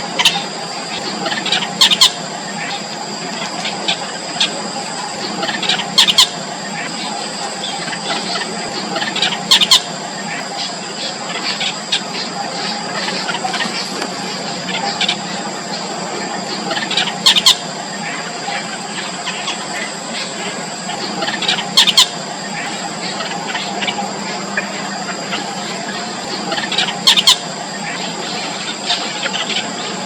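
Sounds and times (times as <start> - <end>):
nestlings begging calls: 0.0 - 30.0
steady background hum: 0.0 - 30.0.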